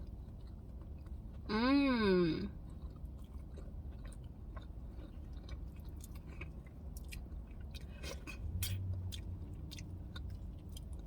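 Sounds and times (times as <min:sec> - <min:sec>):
person chewing crispy food: 0:00.0 - 0:01.5, 0:02.5 - 0:11.0.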